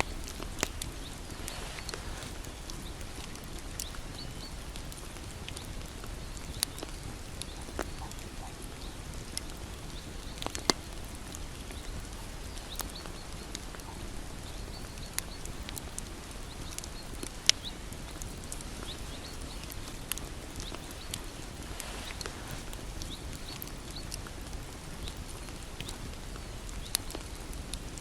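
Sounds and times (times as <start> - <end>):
bonfire rumbling: 0.0 - 28.0
wood crackling and popping: 0.0 - 28.0.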